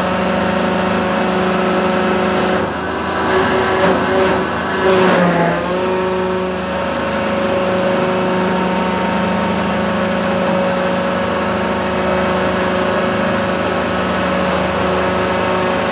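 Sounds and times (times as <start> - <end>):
heavy machinery engine running: 0.0 - 15.9.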